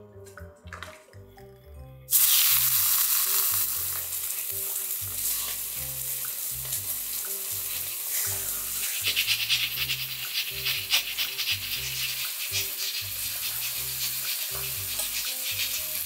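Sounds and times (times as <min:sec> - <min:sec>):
meat sizzling in hot oil: 0:02.1 - 0:16.0
oil crackling and popping: 0:02.1 - 0:16.0.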